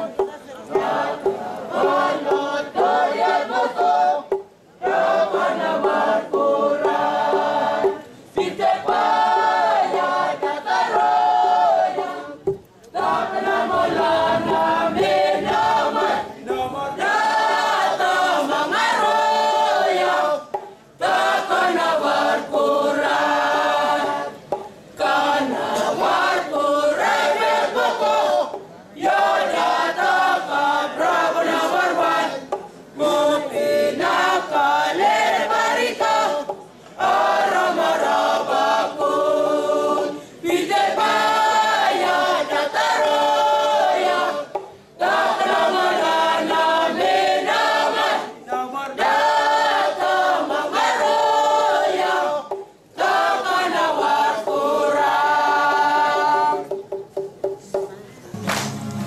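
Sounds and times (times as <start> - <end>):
group singing unaccompanied: 0.0 - 59.0.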